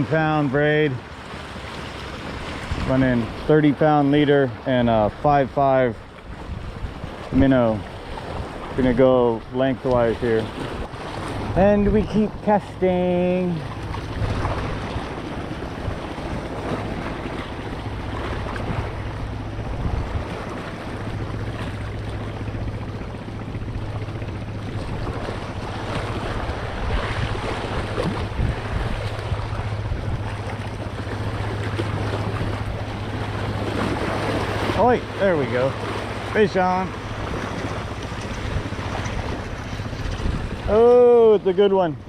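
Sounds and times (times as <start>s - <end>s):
ocean waves washing ashore: 0.0s - 42.0s
wind buffeting microphone: 0.0s - 42.0s.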